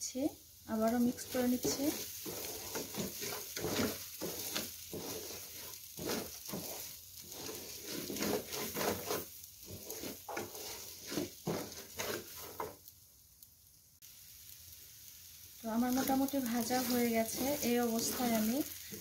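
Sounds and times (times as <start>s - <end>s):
light sizzle: 0.0s - 19.0s
wooden spatula scraping rice: 0.8s - 12.9s, 15.7s - 19.0s.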